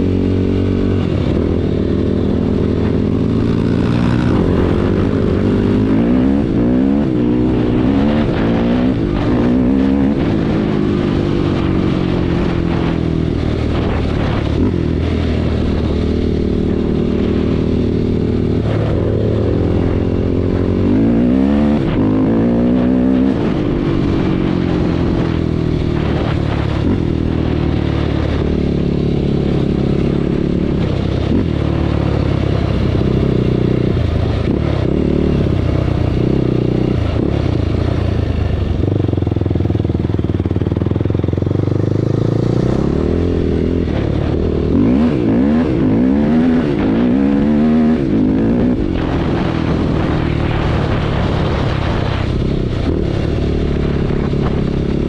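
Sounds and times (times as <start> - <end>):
engine running and revving: 0.0 - 55.0.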